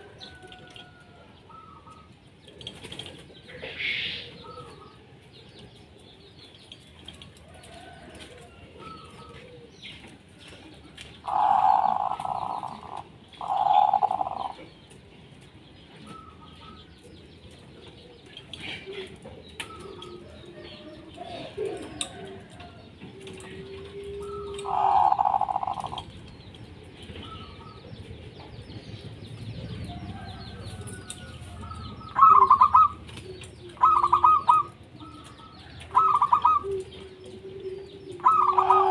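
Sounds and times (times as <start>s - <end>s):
doves cooing: 0.0s - 5.7s, 7.1s - 15.2s, 16.0s - 38.9s
small birds chirping: 0.0s - 38.9s.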